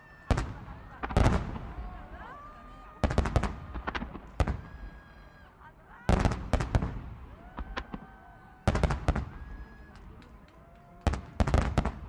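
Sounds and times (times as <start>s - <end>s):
fireworks cracking and banging: 0.0s - 5.2s, 5.9s - 12.0s.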